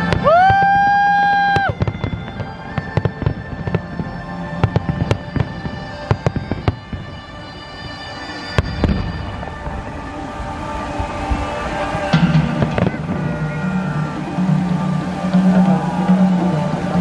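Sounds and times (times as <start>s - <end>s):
fireworks crackling bangs: 0.0s - 17.0s
music playing: 0.0s - 17.0s.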